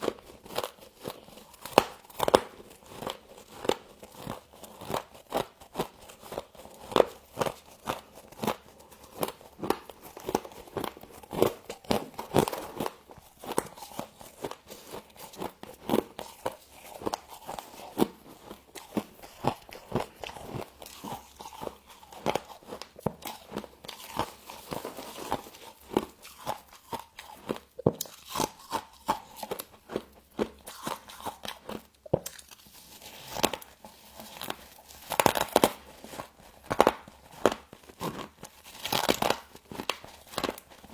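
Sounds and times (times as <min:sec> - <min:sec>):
person chewing frost crunching: 0:00.0 - 0:40.9.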